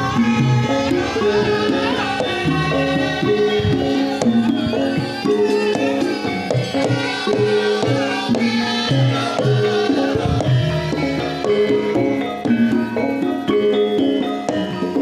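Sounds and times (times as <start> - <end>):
hand drums beat: 0.0 - 15.0.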